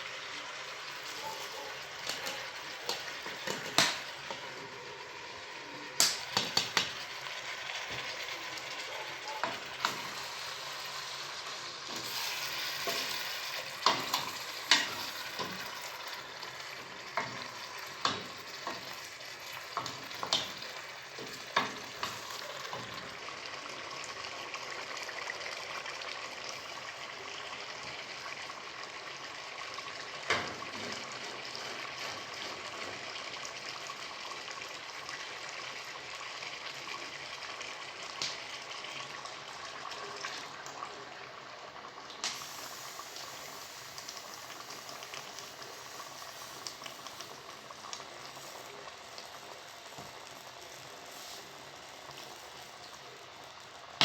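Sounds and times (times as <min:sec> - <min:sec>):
curry sizzling and bubbling in a pan: 0:00.0 - 0:54.0.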